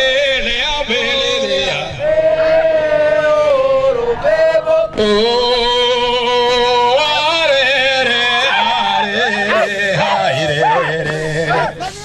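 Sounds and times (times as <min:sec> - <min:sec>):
person chanting long held notes: 0:00.4 - 0:12.0.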